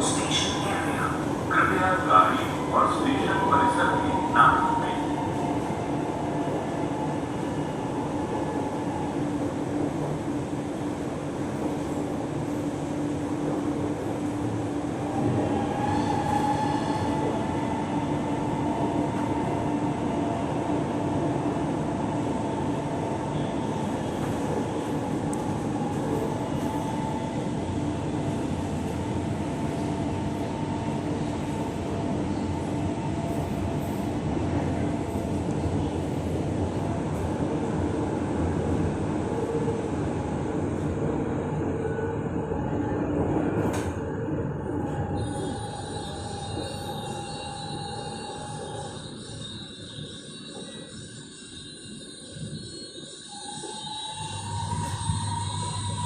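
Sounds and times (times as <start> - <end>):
train rumbling inside carriage: 0.0 - 56.0.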